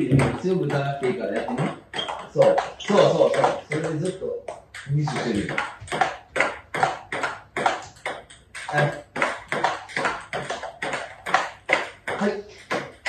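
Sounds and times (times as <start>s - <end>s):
table tennis ball knocking: 0.0s - 13.0s.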